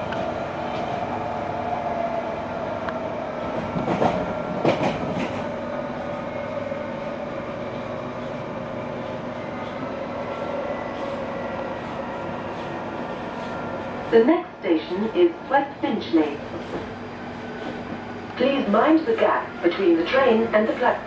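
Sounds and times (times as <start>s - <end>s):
train running steady drone: 0.0s - 21.0s.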